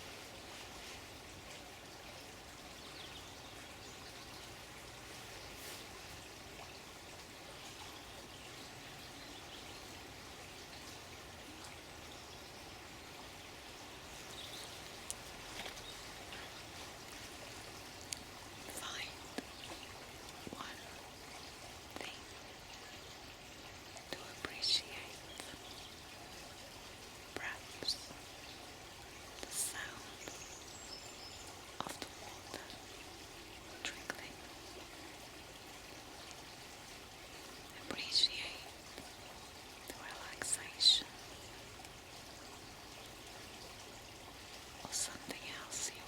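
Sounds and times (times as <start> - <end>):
steady flowing water: 0.0 - 46.0.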